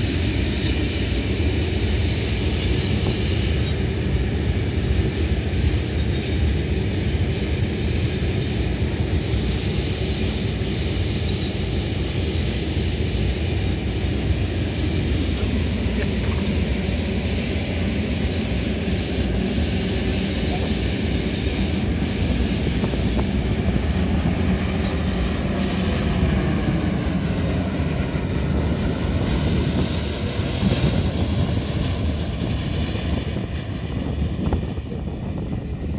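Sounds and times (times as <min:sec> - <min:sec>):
freight train wheels rumbling: 0:00.0 - 0:35.9.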